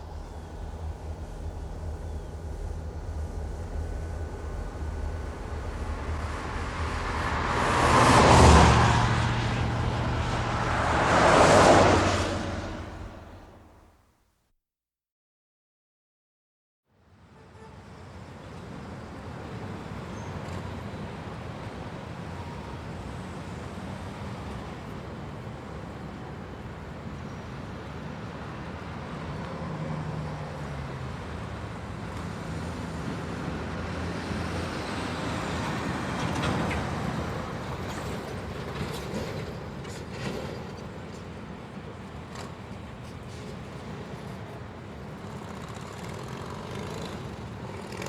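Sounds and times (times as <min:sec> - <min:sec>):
vehicle rumble with road noise: 0:00.0 - 0:13.8, 0:17.9 - 0:48.0.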